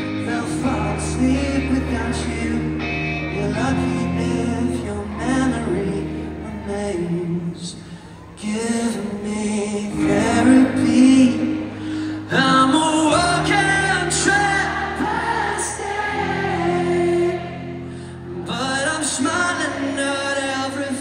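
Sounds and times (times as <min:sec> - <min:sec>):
electric guitar: 0:00.0 - 0:21.0.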